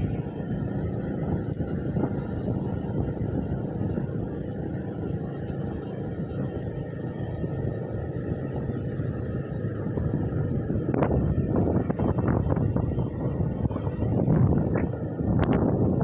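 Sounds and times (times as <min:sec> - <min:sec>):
vehicle rumble: 0:00.0 - 0:16.0
wind buffeting microphone: 0:00.0 - 0:16.0.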